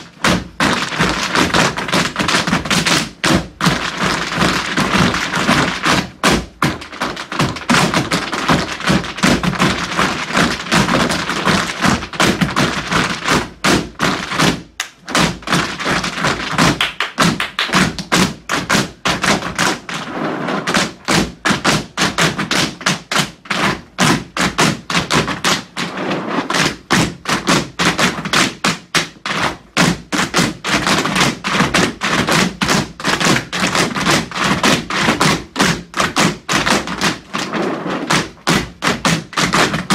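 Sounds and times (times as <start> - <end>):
tap shoes on wooden floor: 0.0 - 39.9.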